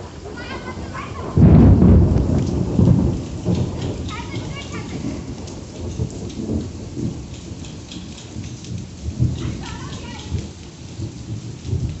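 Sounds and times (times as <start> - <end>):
rain falling: 0.0 - 12.0
wind buffeting microphone: 0.0 - 12.0.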